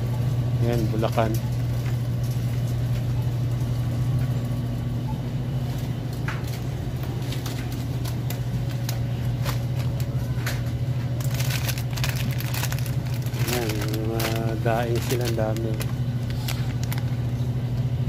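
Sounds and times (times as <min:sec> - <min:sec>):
refrigeration hum: 0:00.0 - 0:18.0.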